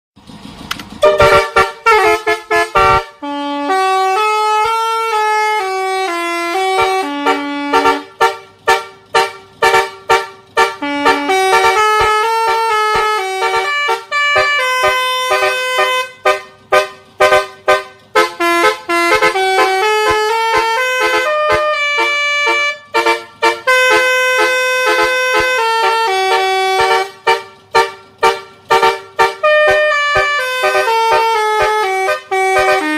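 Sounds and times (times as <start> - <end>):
musical motorcycle horn: 1.0 - 32.9.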